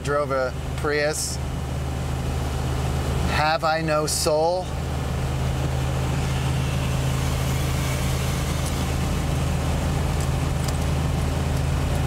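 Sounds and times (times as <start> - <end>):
diesel engine droning: 0.0 - 12.0
road and wind noise: 0.0 - 12.0.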